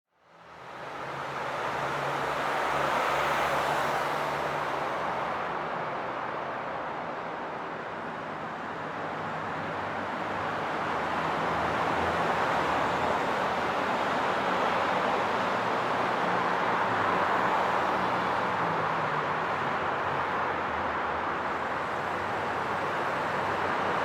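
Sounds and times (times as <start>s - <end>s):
highway traffic: 0.2s - 24.0s.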